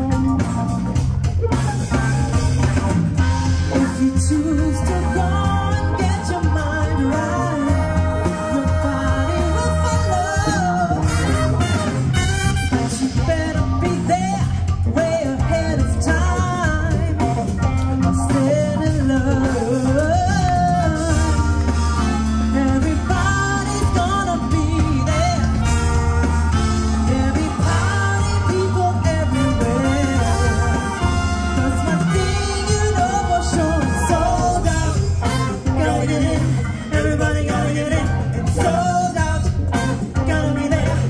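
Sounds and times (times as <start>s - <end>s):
live band playing: 0.0s - 41.0s
strong bass line: 0.0s - 41.0s
person singing: 3.7s - 11.8s, 12.7s - 41.0s.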